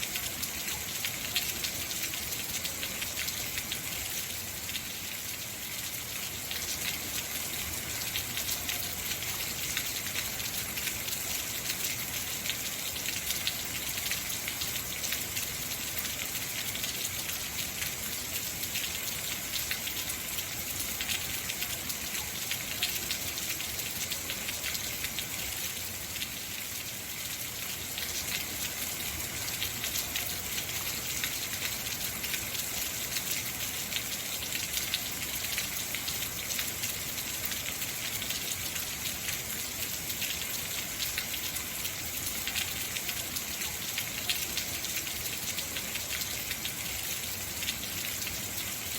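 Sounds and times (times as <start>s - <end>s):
heavy rain on hard surfaces: 0.0s - 48.9s.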